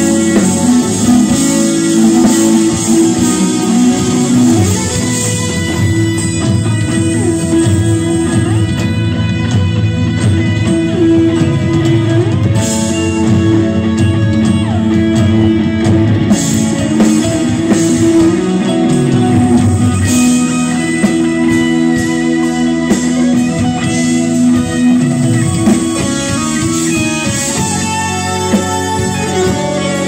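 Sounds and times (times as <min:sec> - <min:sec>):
bass guitar: 0:00.0 - 0:30.0
drum kit: 0:00.0 - 0:30.0
electric guitar: 0:00.0 - 0:30.0.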